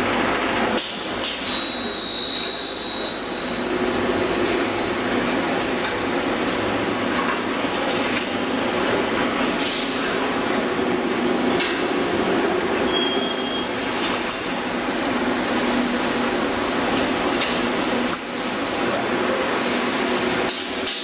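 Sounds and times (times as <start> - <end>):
machinery humming and rattling: 0.0 - 21.0.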